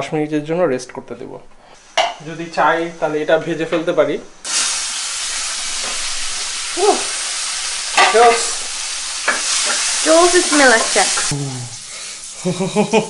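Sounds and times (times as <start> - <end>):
peppers sizzling in a frying pan: 1.8 - 13.0.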